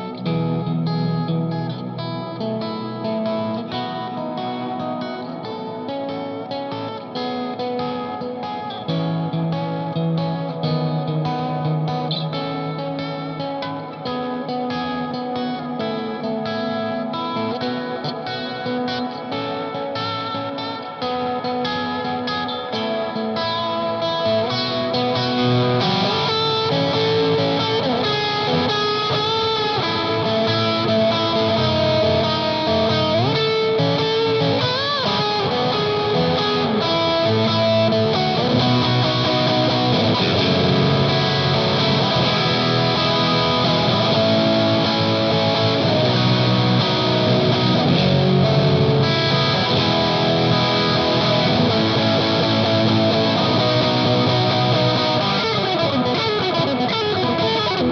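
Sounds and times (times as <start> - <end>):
overdriven electric guitar: 0.0 - 57.9.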